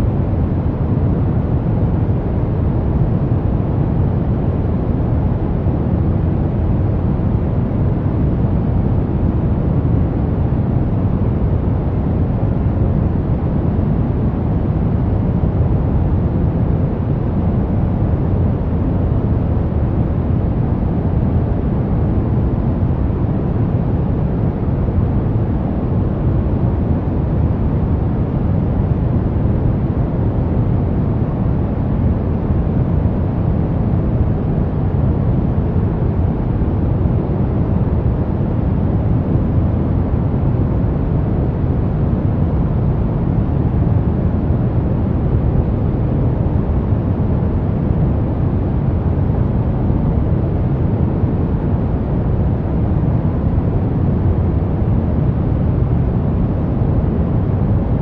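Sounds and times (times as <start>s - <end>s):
brown noise: 0.0s - 58.0s.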